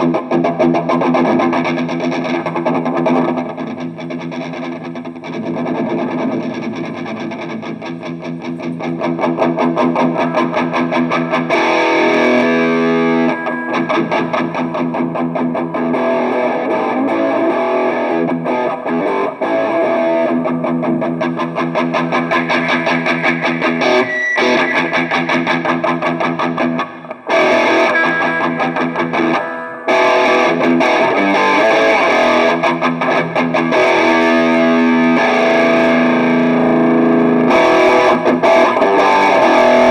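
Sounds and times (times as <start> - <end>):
distorted electric guitar riffs: 0.0 - 39.9.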